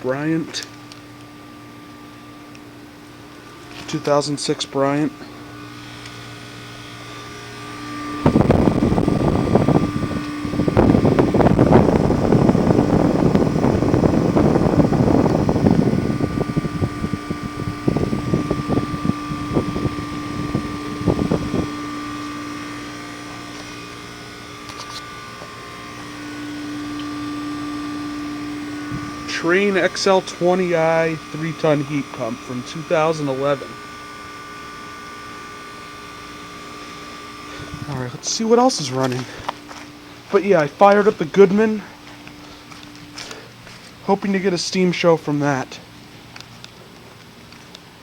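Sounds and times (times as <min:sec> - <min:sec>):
heat pump humming: 0:00.0 - 0:48.0.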